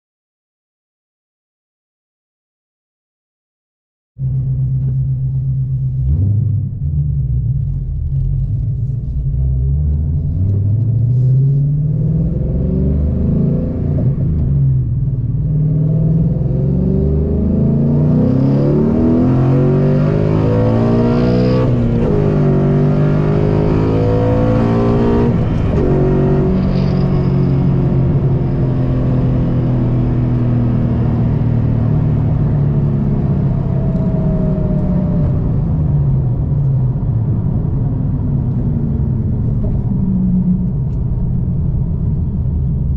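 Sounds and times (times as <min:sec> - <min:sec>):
car engine revving: 0:04.2 - 0:42.9.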